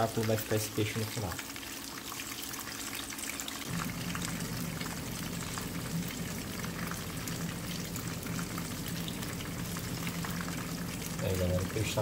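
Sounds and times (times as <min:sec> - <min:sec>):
fish frying in oil: 0:00.0 - 0:12.0
low steady hum: 0:00.0 - 0:12.0.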